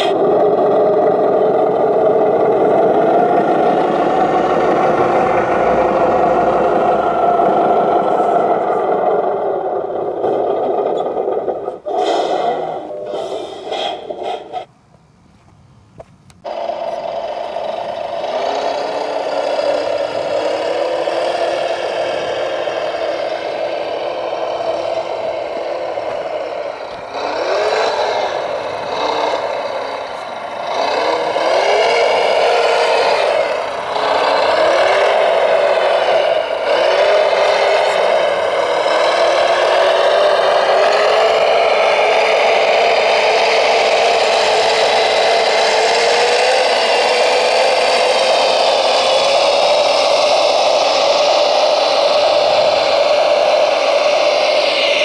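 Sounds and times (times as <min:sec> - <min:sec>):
model vehicle motor whine: 0:00.0 - 0:14.6, 0:16.4 - 0:55.0.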